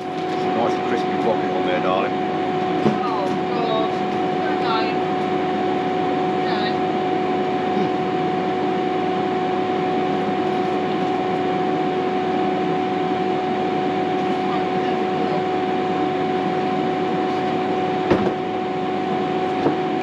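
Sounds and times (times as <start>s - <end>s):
air fryer fan whirring: 0.0s - 20.0s.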